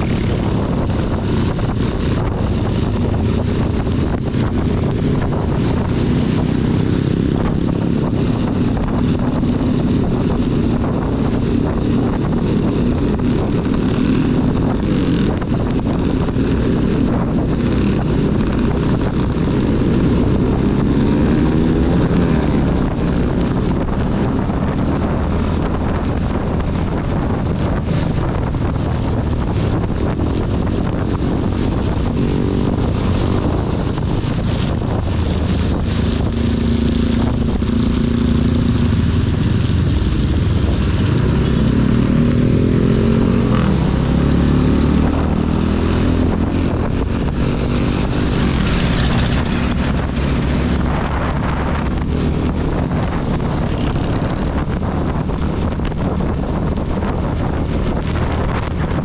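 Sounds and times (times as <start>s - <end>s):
motorcycle engine running: 0.0s - 59.0s
wind and rain noise: 0.0s - 59.0s.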